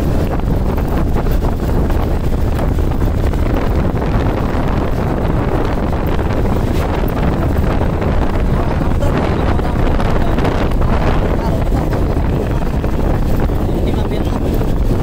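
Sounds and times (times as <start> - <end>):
motorcycle running: 0.0 - 15.0
road noise: 0.0 - 15.0
wind buffeting microphone: 0.0 - 15.0.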